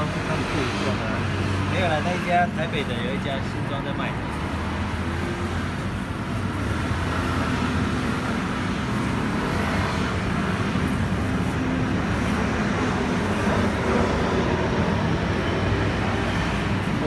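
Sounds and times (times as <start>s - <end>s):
engine and traffic hum: 0.0s - 17.0s.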